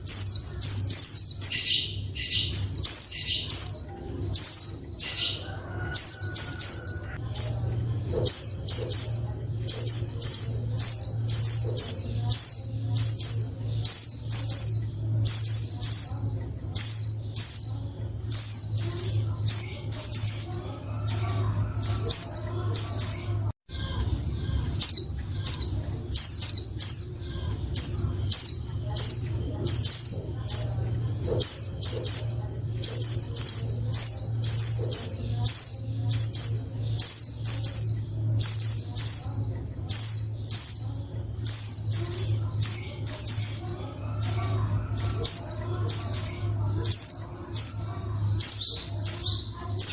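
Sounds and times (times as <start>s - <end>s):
bird chirping high-pitched: 0.0s - 49.9s
steady low hum: 0.0s - 49.9s.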